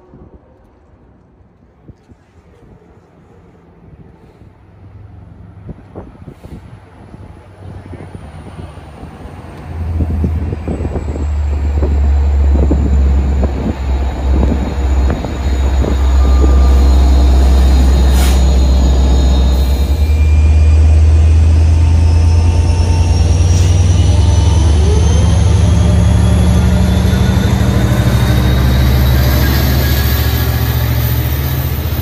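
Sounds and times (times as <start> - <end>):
diesel train engine drone: 0.0 - 32.0
locomotive engine whine: 2.6 - 32.0.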